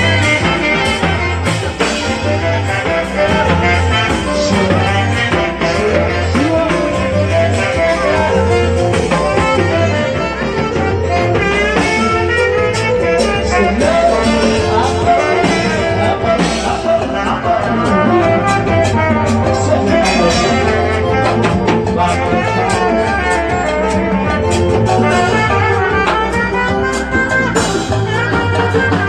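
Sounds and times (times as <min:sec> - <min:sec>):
bass line: 0:00.0 - 0:29.0
conga drums: 0:00.0 - 0:29.0
saxophone: 0:00.0 - 0:29.0.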